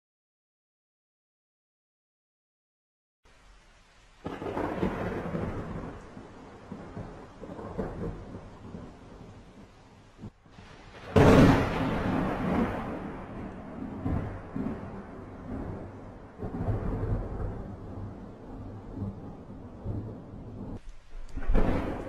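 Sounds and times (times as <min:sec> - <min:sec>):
thunder rumbling: 0:04.2 - 0:22.0.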